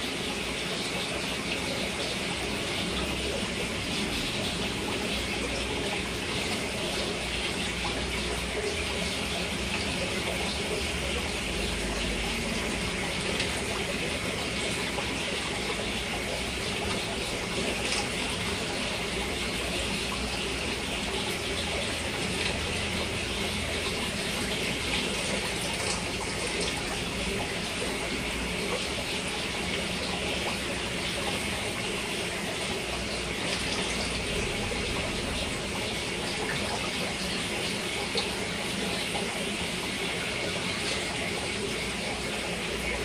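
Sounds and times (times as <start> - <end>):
aquarium filter water rushing: 0.0 - 43.0.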